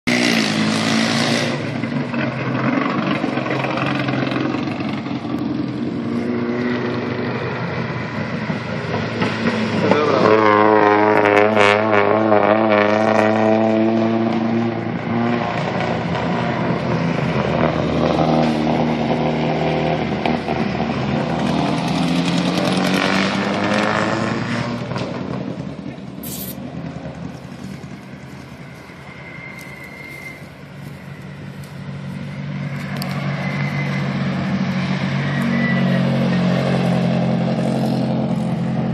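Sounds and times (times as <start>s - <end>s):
race cars accelerating past: 0.1s - 38.9s.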